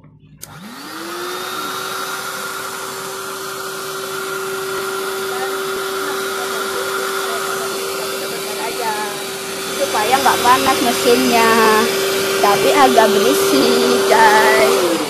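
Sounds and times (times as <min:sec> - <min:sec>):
electric air pump humming: 0:00.4 - 0:15.0.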